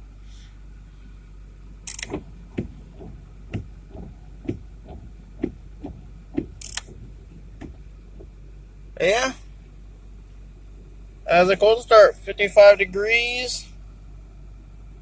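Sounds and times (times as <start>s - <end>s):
diesel engine idling with knock: 0.0s - 15.0s.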